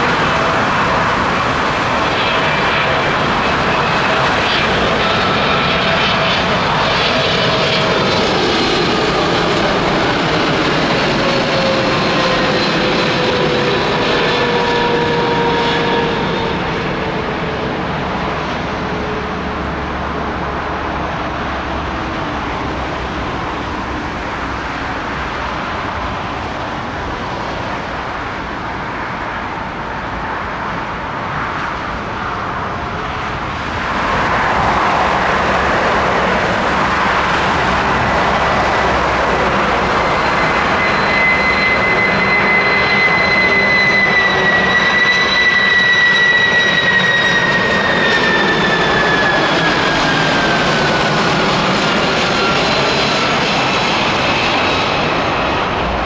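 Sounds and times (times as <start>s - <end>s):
high jet engine whistle: 0.0s - 56.0s
jet engines of landing aircraft: 0.0s - 56.0s.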